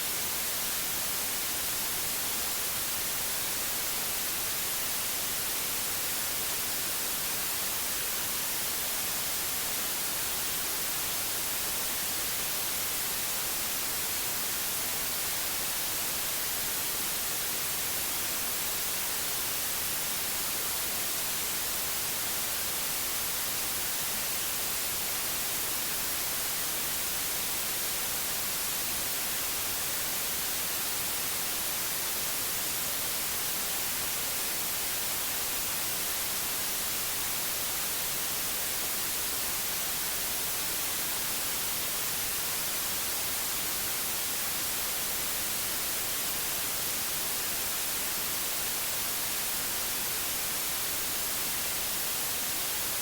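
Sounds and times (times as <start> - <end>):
white noise hiss: 0.0 - 53.0.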